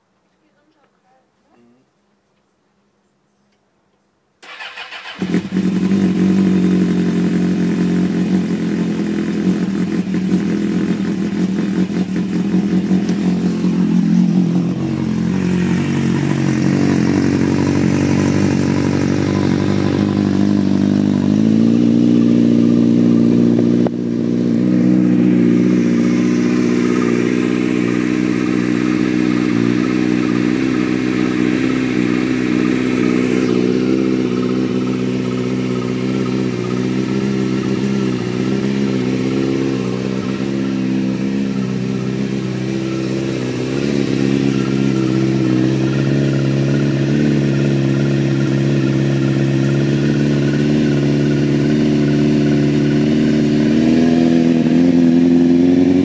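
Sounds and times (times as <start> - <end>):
motorcycle engine starting and idling: 4.4 - 56.0.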